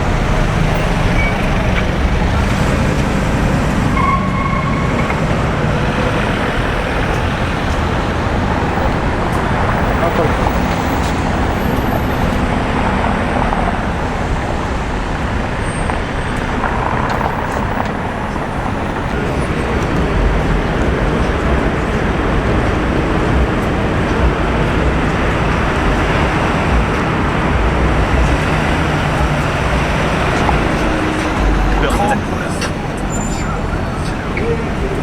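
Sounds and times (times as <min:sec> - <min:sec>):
passing vehicle engines: 0:00.0 - 0:35.0
road noise: 0:00.0 - 0:35.0.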